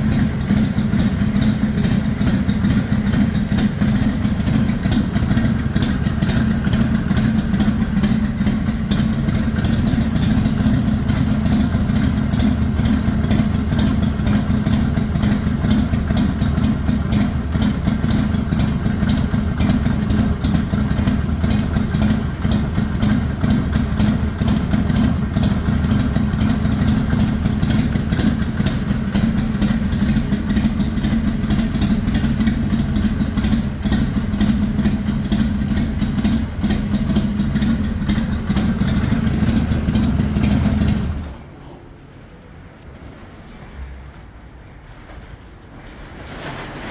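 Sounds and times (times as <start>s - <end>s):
motorcycle engine idling: 0.0s - 42.8s.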